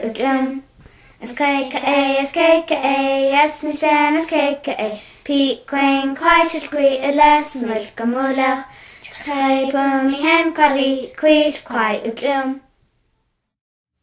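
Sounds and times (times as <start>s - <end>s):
child singing: 0.0s - 12.7s.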